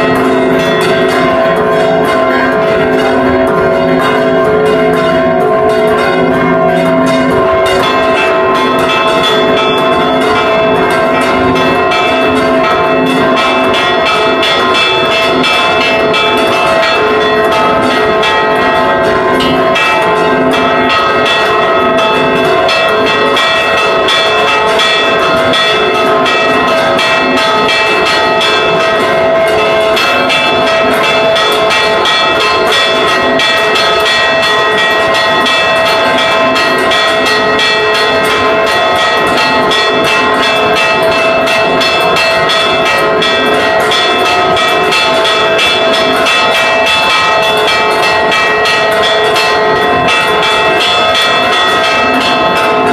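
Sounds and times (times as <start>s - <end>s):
church bells pealing: 0.0s - 52.9s.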